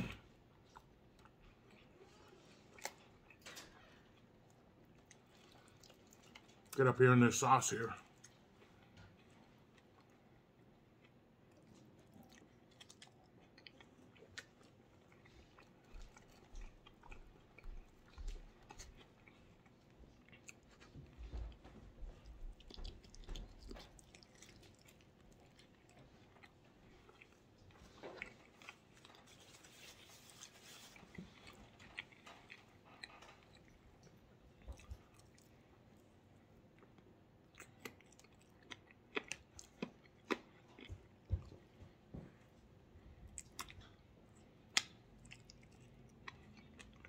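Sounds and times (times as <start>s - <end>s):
person chewing: 0.0s - 6.8s, 8.0s - 41.7s, 43.2s - 47.0s.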